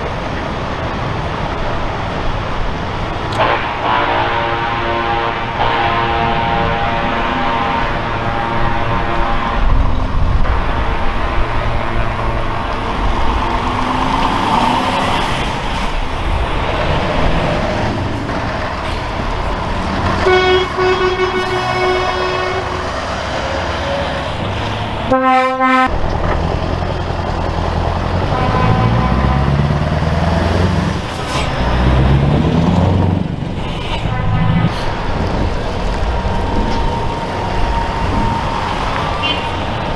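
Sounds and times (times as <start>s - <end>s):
diesel trucks driving past: 0.0s - 39.9s
truck horn blasts: 2.8s - 26.0s, 27.7s - 33.0s, 34.0s - 39.9s.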